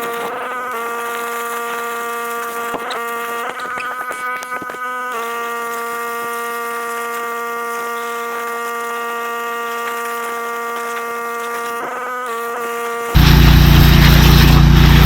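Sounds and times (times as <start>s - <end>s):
steady buzzing hum: 0.0s - 15.0s.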